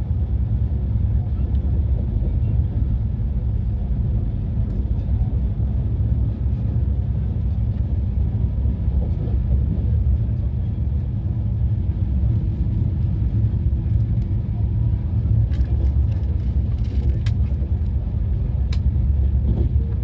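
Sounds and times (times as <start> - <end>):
moving train rumbling: 0.0 - 20.0.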